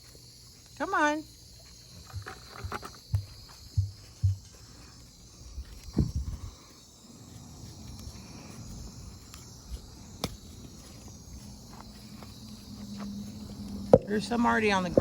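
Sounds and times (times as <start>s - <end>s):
high insect buzz: 0.0s - 15.0s.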